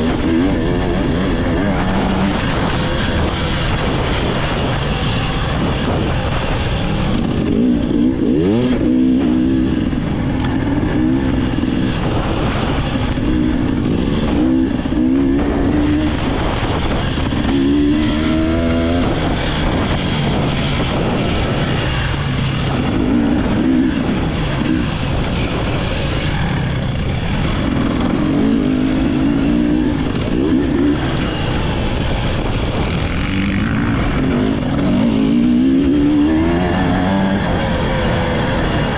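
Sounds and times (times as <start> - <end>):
dirt bike engine revving: 0.0 - 38.9
steady rumble: 0.0 - 38.9.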